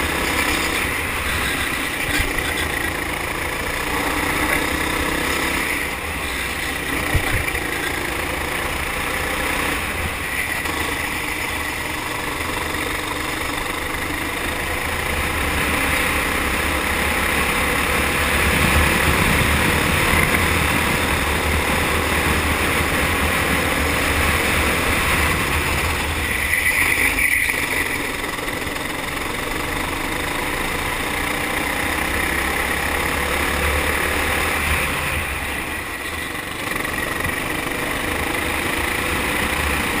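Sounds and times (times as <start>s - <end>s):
kart engine running: 0.0s - 40.0s.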